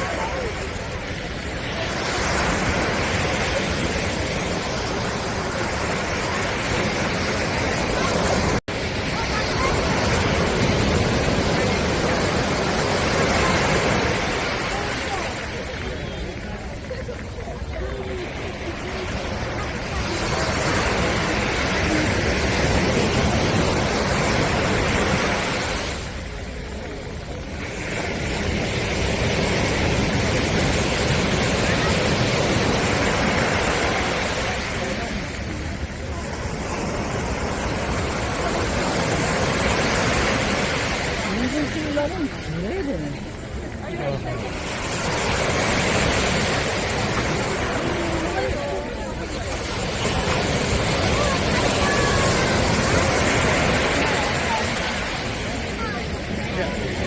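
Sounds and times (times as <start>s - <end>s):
waves washing onto beach: 0.0s - 57.0s.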